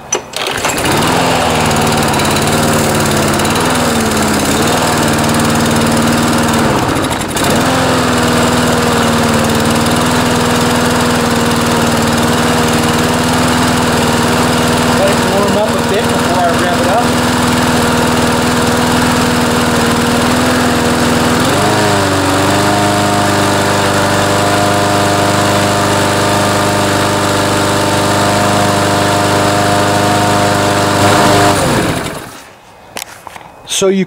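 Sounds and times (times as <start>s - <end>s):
mower engine running and revving: 0.3s - 32.5s.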